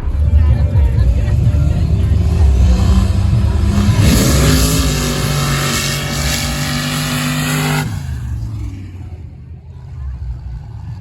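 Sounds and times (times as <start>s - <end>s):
diesel engine at full throttle: 0.0s - 11.0s.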